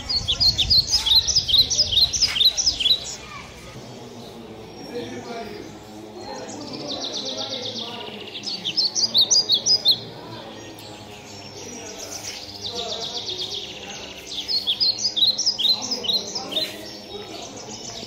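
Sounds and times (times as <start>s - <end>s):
low background murmur: 0.0s - 18.0s
small birds singing: 0.0s - 18.0s.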